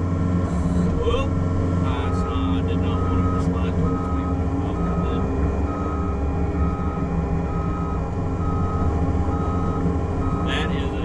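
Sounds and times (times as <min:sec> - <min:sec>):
diesel engine under load: 0:00.0 - 0:11.0
alarm beeping: 0:02.0 - 0:10.9.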